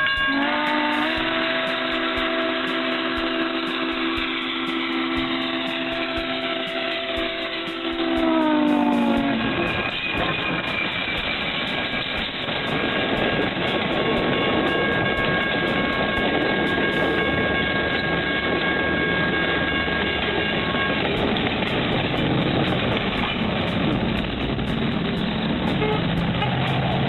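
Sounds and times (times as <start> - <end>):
high ringing tone: 0.0 - 21.8
passing train rumble: 0.0 - 27.0.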